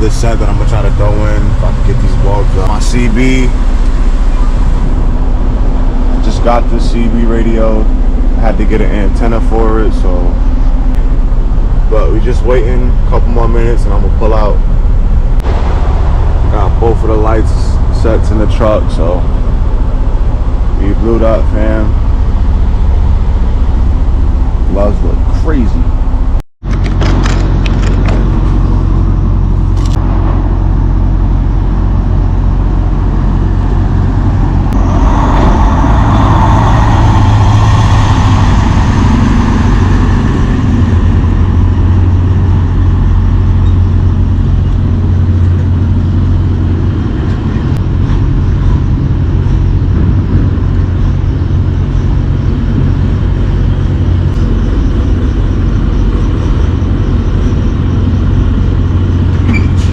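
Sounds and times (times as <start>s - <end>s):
diesel truck engine humming: 0.0s - 59.9s.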